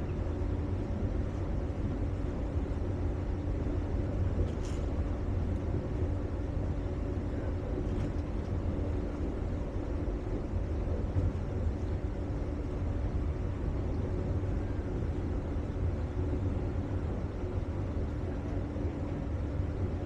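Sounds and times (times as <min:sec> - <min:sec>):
boat engine drone: 0:00.0 - 0:20.0
faint humming tones: 0:00.0 - 0:20.0.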